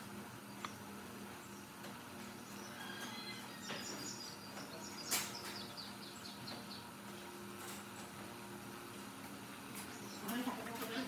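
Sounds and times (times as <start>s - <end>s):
steady low hum: 0.0s - 11.0s
birds chirping: 0.3s - 11.0s.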